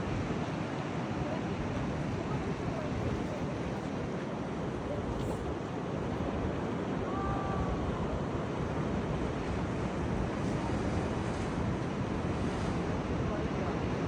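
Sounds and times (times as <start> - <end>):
surf and breaking waves: 0.0 - 14.0.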